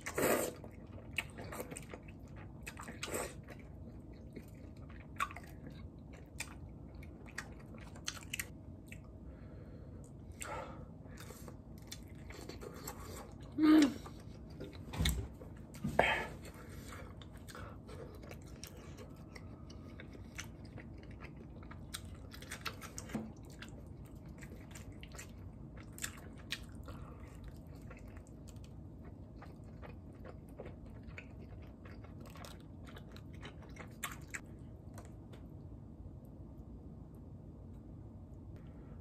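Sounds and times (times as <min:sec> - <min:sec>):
person chewing food: 0:00.0 - 0:35.6.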